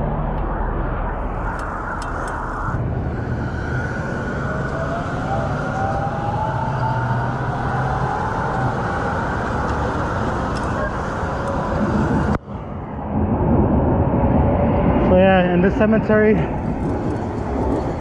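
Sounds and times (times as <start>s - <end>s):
train whine rising in pitch: 0.0s - 14.8s
bicycle road noise: 0.0s - 18.0s
wind rush: 0.0s - 18.0s.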